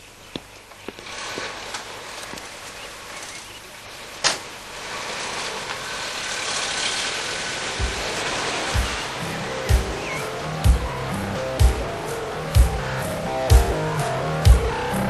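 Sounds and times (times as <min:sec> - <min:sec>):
car engine pulling away: 0:00.9 - 0:15.0.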